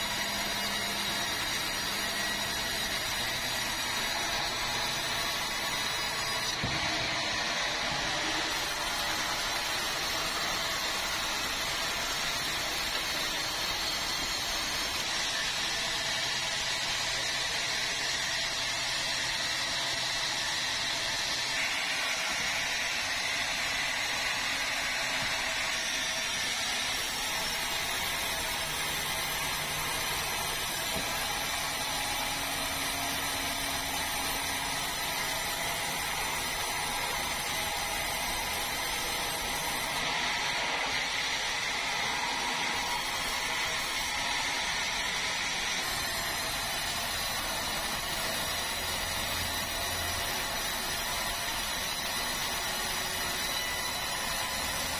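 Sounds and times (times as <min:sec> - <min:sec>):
bandsaw cutting timber: 0:00.0 - 0:54.9.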